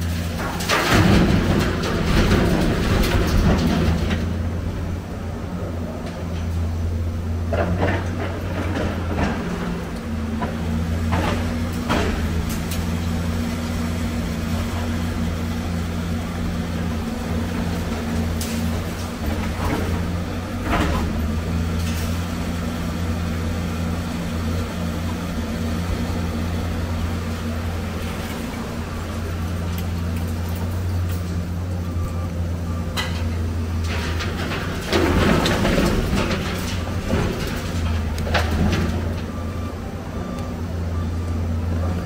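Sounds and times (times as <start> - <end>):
excavator engine running: 0.0 - 42.0.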